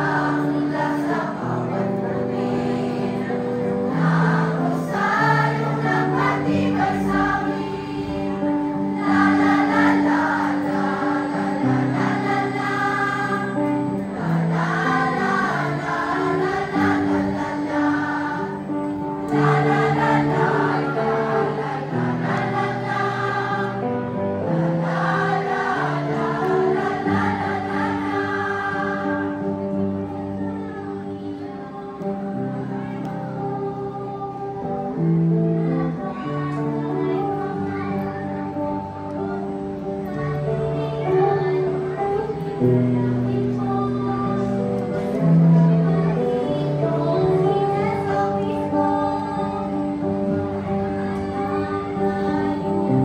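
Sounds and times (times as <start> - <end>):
choir of women singing: 0.0 - 53.0
low held accompaniment notes: 0.0 - 53.0.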